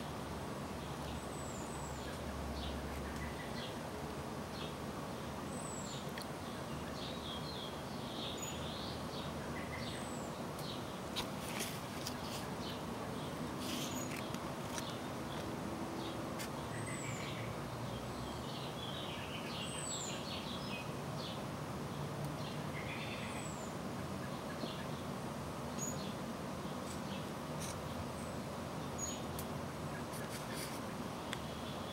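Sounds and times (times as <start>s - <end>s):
background hiss and hum: 0.0s - 31.9s
small birds chirping: 0.0s - 31.9s.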